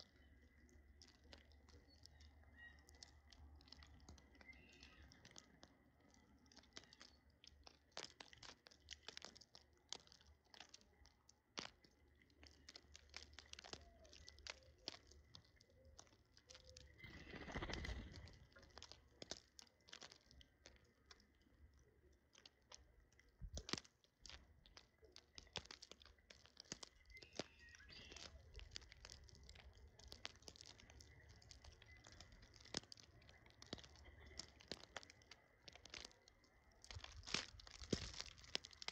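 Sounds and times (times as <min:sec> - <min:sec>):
birds pecking at food: 0:00.0 - 0:38.9.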